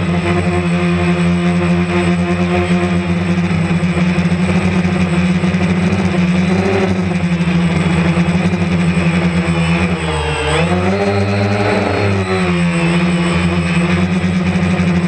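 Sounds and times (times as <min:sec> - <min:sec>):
drone propellers buzzing: 0:00.0 - 0:15.0.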